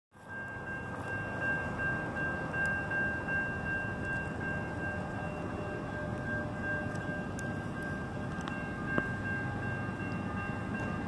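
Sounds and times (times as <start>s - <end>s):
crossing warning bell ringing: 0.2s - 11.0s.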